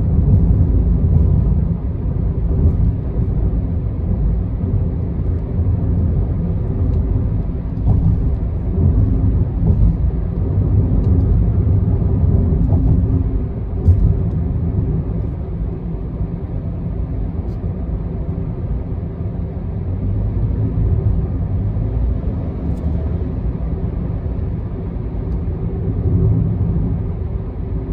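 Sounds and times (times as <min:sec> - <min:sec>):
car driving at speed: 0:00.0 - 0:27.9.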